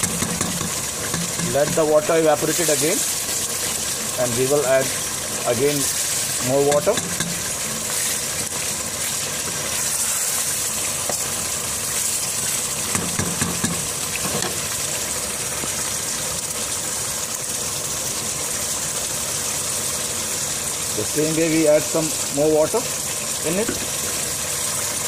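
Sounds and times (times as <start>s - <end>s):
curry sizzling and bubbling in a pot: 0.0s - 25.0s.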